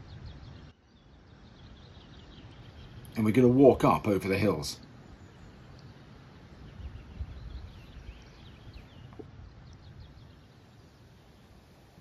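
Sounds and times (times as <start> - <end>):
faint bird chirps: 0.0 - 12.0
low wind rumble: 0.0 - 12.0.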